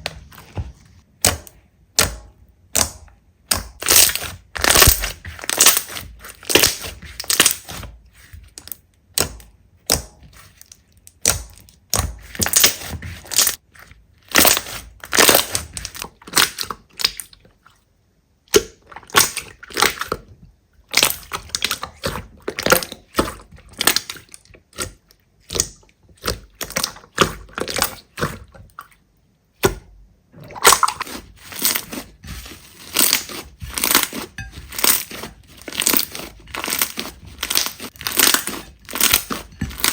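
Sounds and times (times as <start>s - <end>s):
slime squishing and crackling: 1.2s - 17.5s, 18.5s - 20.3s, 20.9s - 28.8s, 30.5s - 39.9s.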